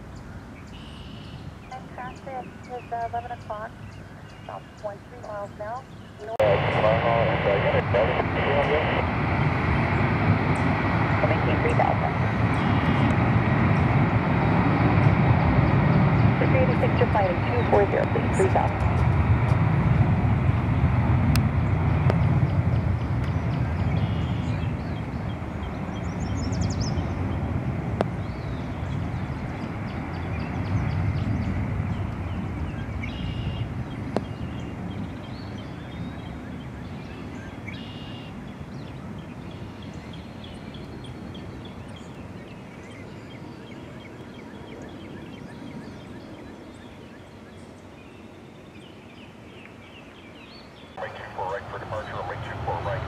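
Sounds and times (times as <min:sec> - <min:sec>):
jet engines rumbling: 0:01.4 - 0:46.8, 0:50.9 - 0:53.0.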